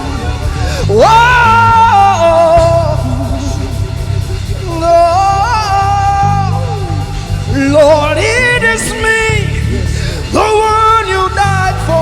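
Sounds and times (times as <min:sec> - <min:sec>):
band accompaniment with bass: 0:00.0 - 0:12.0
lead singer holding long notes: 0:00.0 - 0:12.0.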